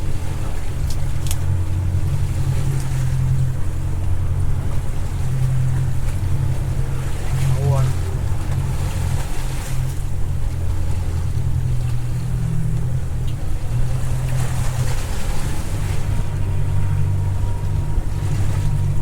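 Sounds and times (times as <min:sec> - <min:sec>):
boat engine humming: 0:00.0 - 0:19.0
rough water rushing: 0:00.0 - 0:19.0
wind: 0:00.0 - 0:19.0.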